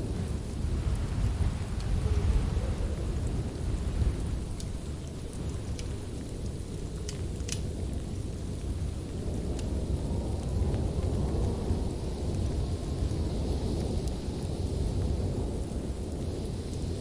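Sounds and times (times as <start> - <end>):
fire crackles and pops: 0.0 - 17.0
wood fire flames rumbling: 0.0 - 17.0.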